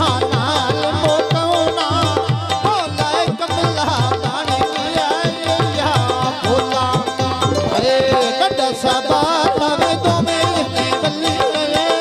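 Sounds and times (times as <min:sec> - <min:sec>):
hand drum beat: 0:00.0 - 0:12.0.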